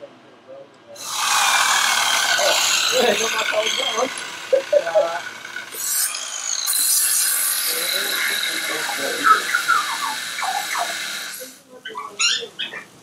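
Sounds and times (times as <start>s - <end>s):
angle grinder cutting steel: 1.0s - 11.6s.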